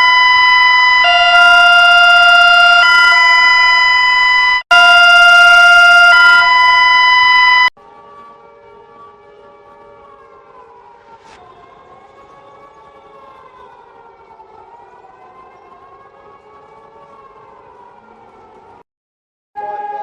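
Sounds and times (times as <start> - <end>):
warning siren wailing: 0.0 - 18.8, 19.6 - 20.0.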